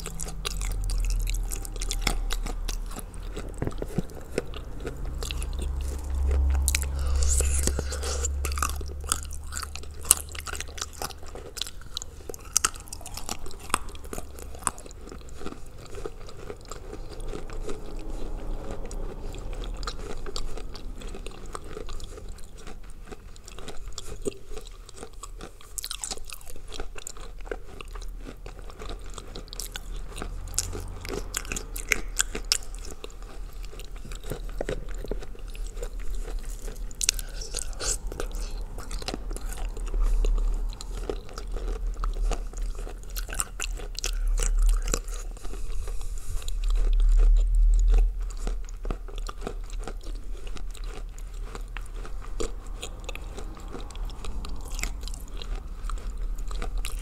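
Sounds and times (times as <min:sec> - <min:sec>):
chewing and crunching clay: 0:00.0 - 0:57.0.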